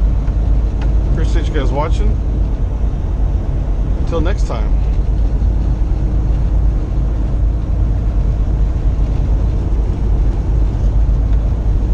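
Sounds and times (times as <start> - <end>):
truck engine rumble: 0.0 - 11.9.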